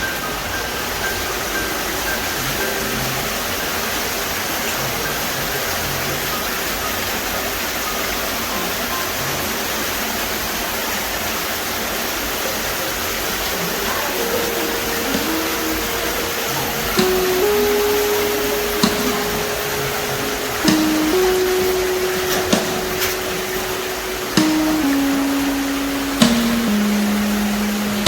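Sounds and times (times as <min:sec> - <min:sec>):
faint soft music: 0:00.0 - 0:28.0
waterfall rushing: 0:00.1 - 0:28.0.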